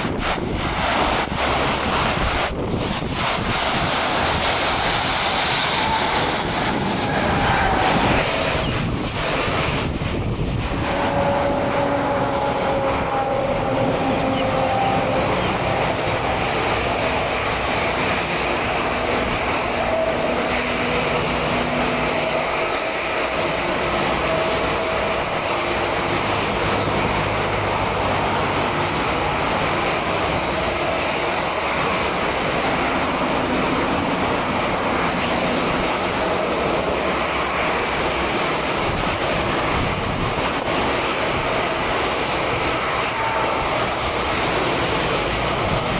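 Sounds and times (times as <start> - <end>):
jet engines rushing and whining: 0.0 - 45.9.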